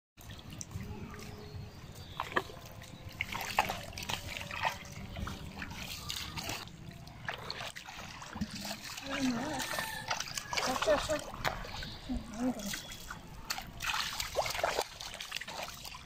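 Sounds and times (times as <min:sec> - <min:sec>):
bare feet squelching in mud: 0:00.2 - 0:16.0.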